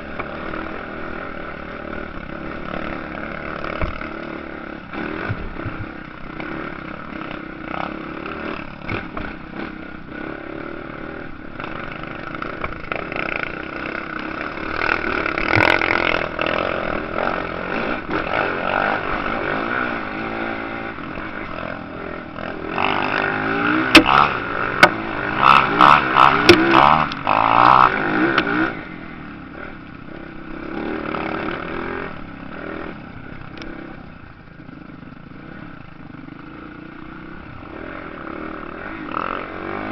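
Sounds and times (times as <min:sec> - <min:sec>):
motocross engines revving: 0:00.1 - 0:39.9.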